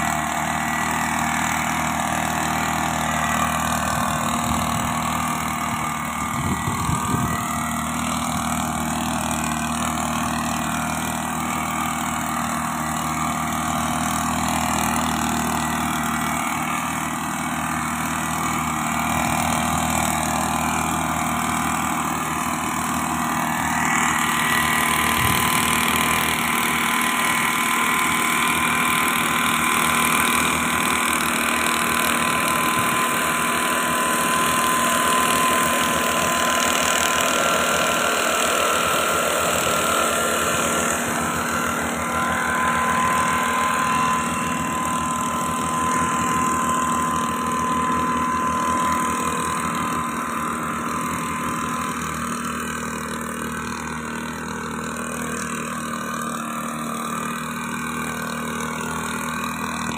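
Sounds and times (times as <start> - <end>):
two-stroke mist-blower engine: 0.0 - 59.9.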